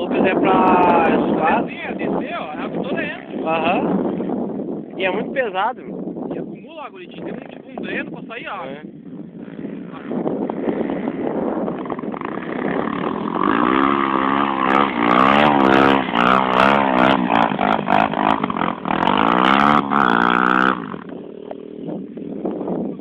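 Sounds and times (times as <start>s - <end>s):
motorcycle engine revving: 0.0s - 5.1s, 7.1s - 23.0s.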